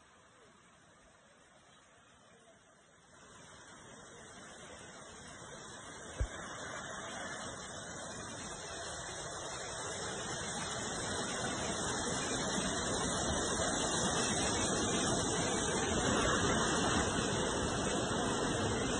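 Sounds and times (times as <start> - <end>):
floodwater rushing: 0.0 - 18.9.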